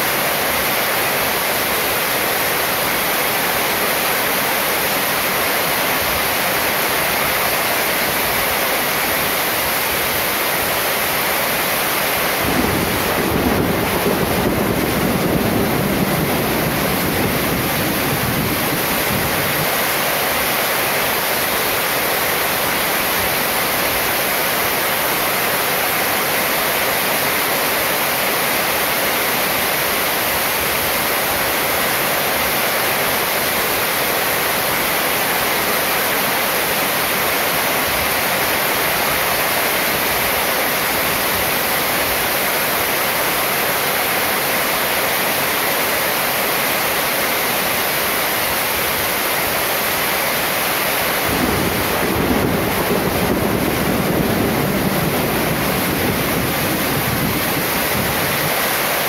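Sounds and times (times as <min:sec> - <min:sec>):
heavy rain on metal roof: 0:00.0 - 0:59.0
water pouring off roof edge: 0:00.0 - 0:59.0.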